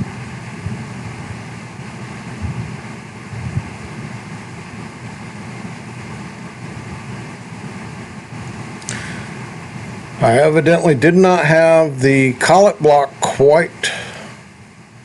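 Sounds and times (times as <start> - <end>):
milling machine running: 0.0 - 15.0.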